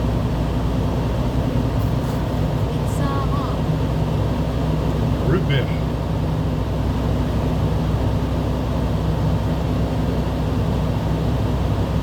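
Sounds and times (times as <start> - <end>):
car engine drone inside cabin: 0.0 - 12.0.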